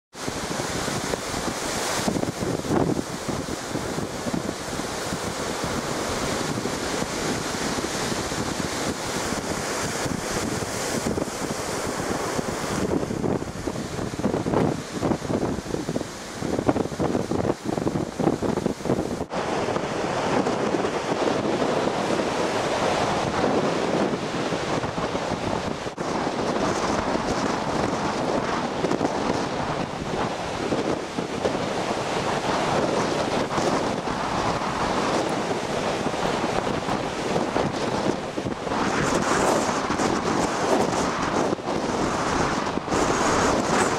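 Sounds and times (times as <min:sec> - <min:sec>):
surf breaking on shore: 0:00.1 - 0:43.9
wind buffeting microphone: 0:00.1 - 0:43.9.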